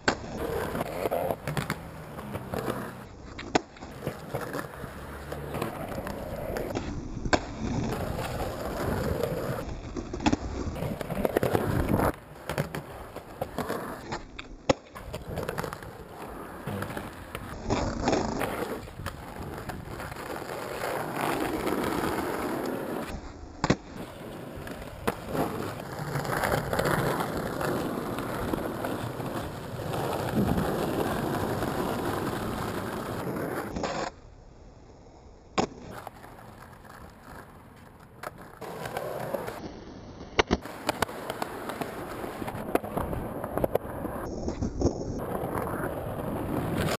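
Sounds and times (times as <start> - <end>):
skateboard clacking on ground: 0.0 - 34.2, 35.6 - 47.0
skateboard wheels rolling on asphalt: 0.0 - 47.0.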